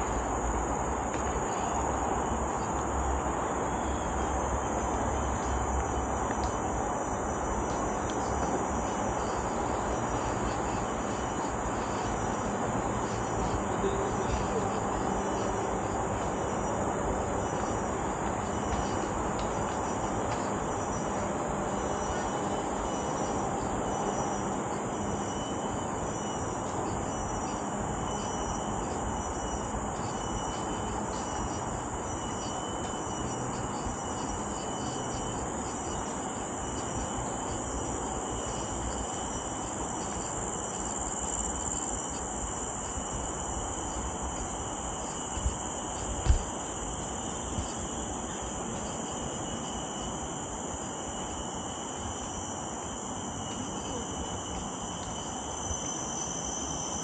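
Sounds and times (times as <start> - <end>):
forest insects shrilling: 1.0 - 57.0.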